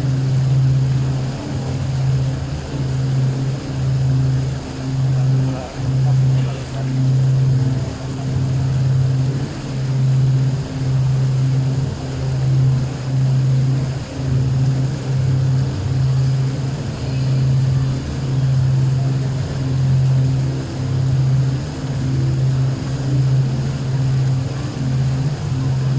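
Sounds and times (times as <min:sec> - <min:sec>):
boat engine humming: 0:00.0 - 0:25.9.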